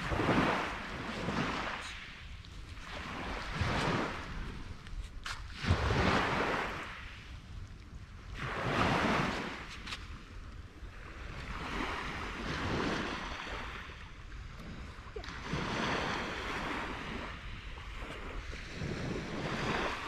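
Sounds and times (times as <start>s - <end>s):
small waves washing onto sand: 0.0s - 20.0s.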